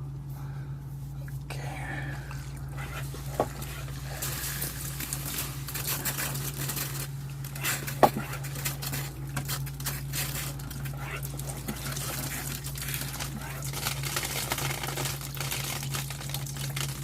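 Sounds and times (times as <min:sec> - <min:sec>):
steady low hum: 0:00.0 - 0:17.0
water and ice pattering: 0:02.0 - 0:17.0.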